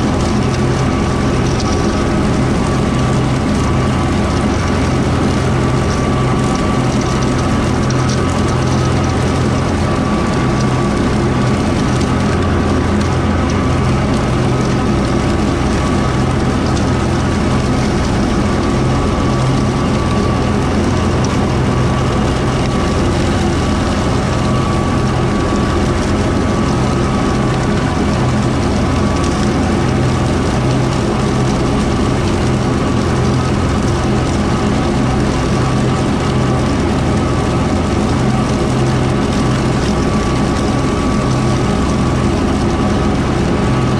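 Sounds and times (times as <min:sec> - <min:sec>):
rotary mower high whine: 0:00.0 - 0:43.9
tractor diesel engine under load: 0:00.0 - 0:43.9.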